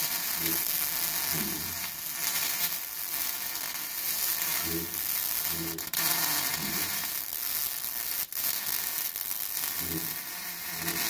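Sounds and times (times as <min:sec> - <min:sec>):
welding arc crackling and sizzling: 0:00.0 - 0:11.0.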